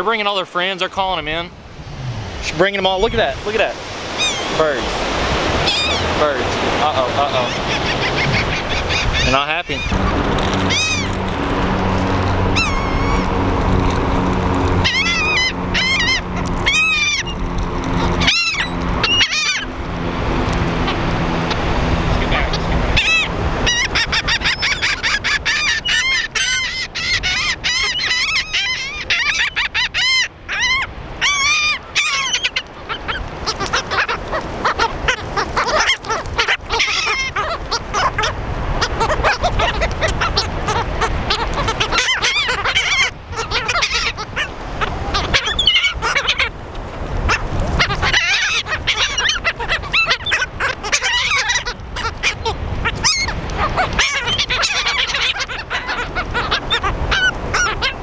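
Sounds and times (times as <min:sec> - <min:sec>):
flock of birds squawking: 0:03.4 - 0:58.0.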